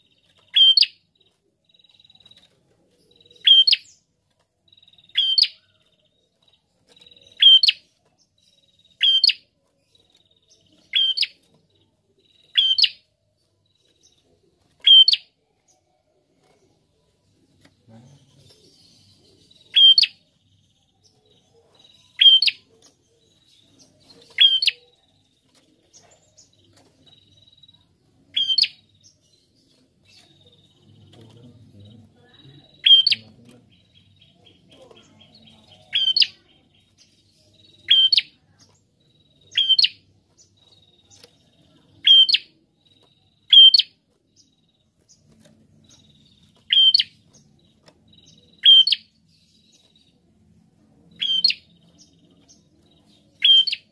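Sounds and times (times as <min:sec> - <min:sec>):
bird chirping: 0:00.0 - 0:53.9.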